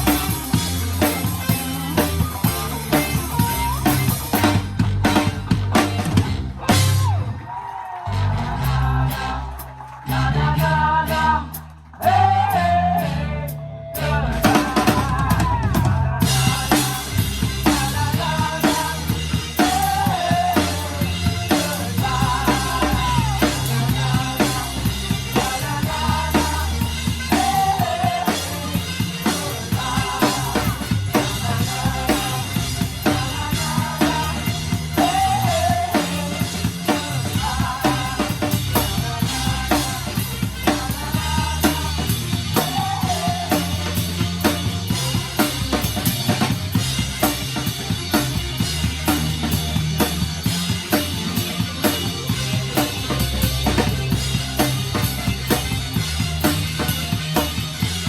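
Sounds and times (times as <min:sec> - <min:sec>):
drum kit groove: 0:00.0 - 0:07.4, 0:08.0 - 0:13.1, 0:14.0 - 0:58.0
live band playing: 0:00.0 - 0:58.0.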